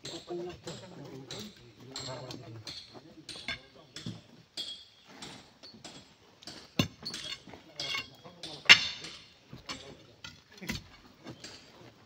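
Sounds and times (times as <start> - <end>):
steel tools striking rock: 0.0 - 11.7.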